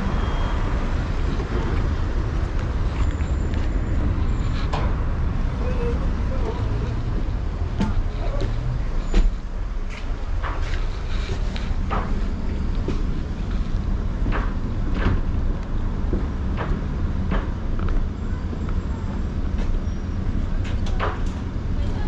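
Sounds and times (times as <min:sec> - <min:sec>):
tram low hum: 0:00.0 - 0:22.0.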